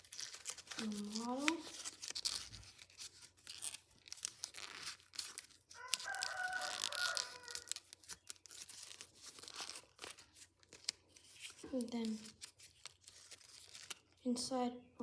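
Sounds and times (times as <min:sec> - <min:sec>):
paper folding and crinkling: 0:00.0 - 0:14.3.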